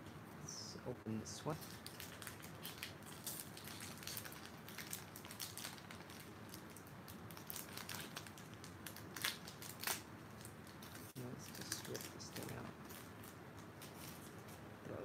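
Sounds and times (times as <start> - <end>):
foil wrapper tearing and crinkling: 1.5 - 14.5.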